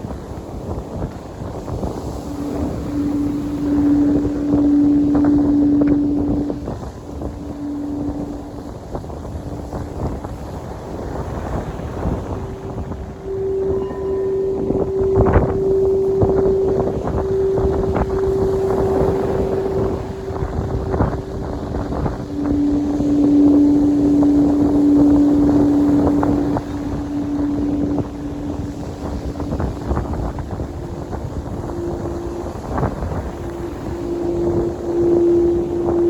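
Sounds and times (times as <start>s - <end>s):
lower sustained tone: 0.0s - 36.0s
sustained pure tone: 0.0s - 36.0s
wind buffeting microphone: 0.0s - 36.0s.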